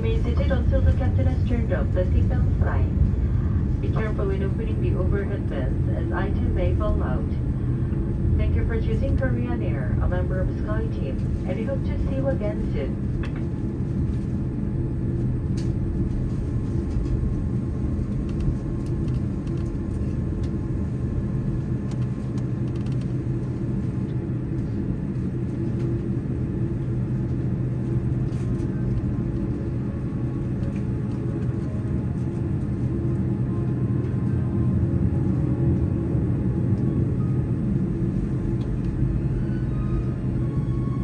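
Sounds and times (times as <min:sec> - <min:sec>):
aircraft cabin rumble and hum: 0:00.0 - 0:41.0.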